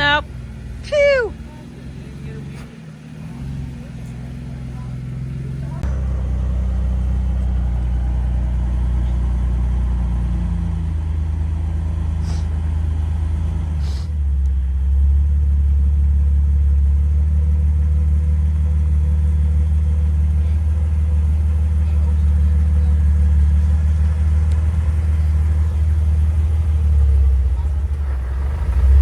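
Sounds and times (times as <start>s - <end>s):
car engine running at low speed: 0.0s - 29.0s.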